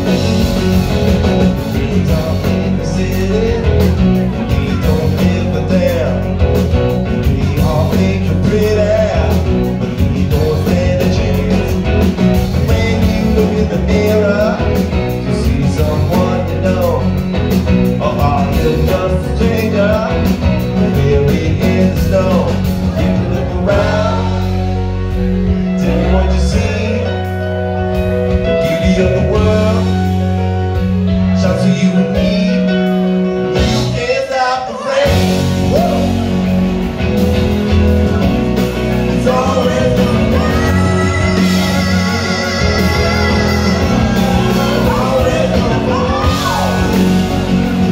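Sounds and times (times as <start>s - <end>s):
person singing: 0.0s - 30.4s, 38.6s - 47.9s
live rock band playing: 0.0s - 47.9s.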